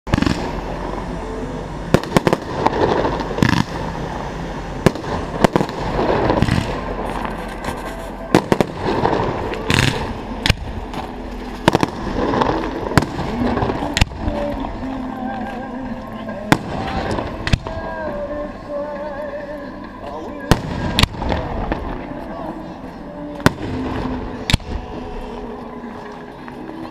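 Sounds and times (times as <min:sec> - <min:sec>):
fireworks bursting with bangs: 0:00.1 - 0:01.1, 0:01.8 - 0:18.8, 0:20.4 - 0:22.4, 0:23.2 - 0:25.6
spectators chattering: 0:00.1 - 0:26.9.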